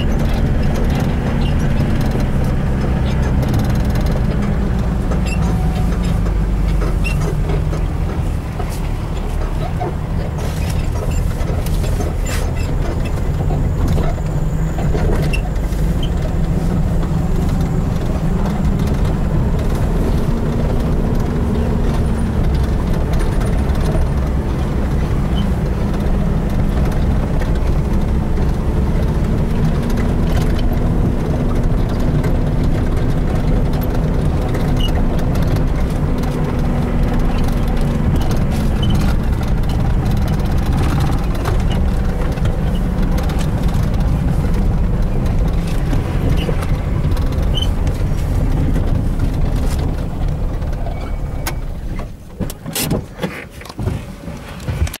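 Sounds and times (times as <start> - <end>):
vehicle engine and tyres droning: 0.0 - 55.0.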